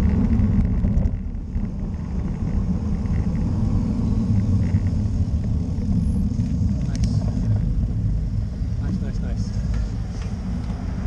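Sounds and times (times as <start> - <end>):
road and tyre noise: 0.0 - 11.0
wind buffeting microphone: 0.0 - 11.0.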